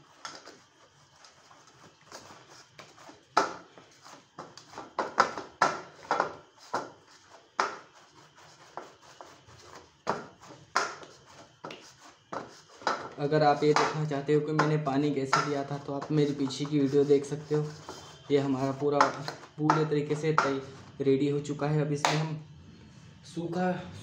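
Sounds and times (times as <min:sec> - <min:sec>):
dough kneaded in steel bowl: 0:00.0 - 0:21.0.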